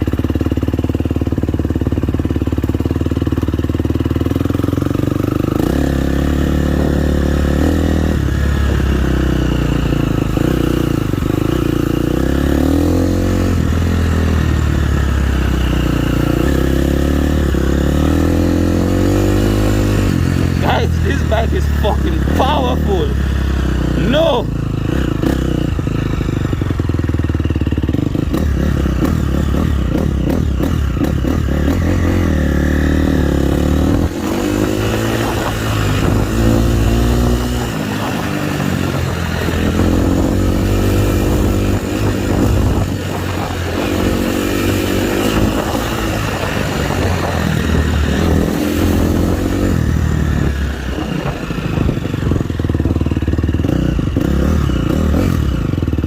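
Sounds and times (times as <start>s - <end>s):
dirt bike engine revving: 4.1s - 56.0s.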